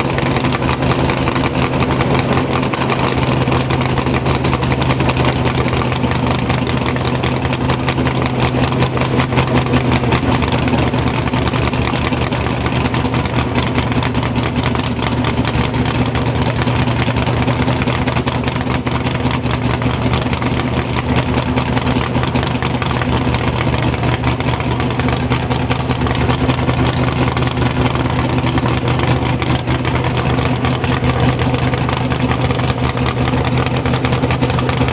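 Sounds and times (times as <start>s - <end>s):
drag car engine idling loudly: 0.0s - 34.9s.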